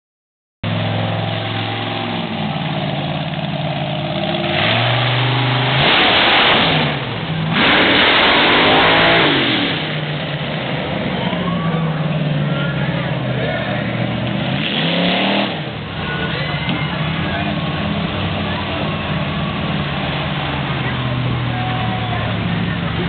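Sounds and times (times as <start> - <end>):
truck engine revving: 0.6 - 23.0.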